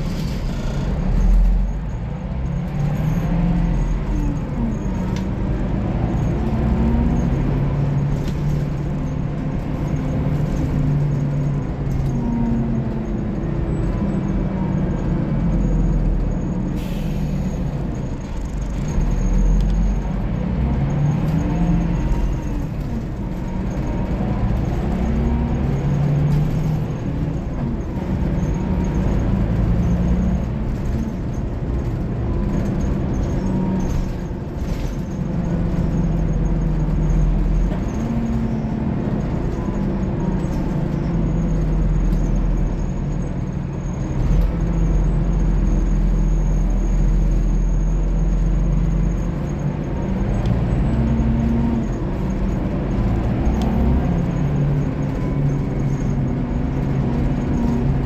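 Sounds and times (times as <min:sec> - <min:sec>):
bus diesel engine shifting gears: 0:00.0 - 0:58.0.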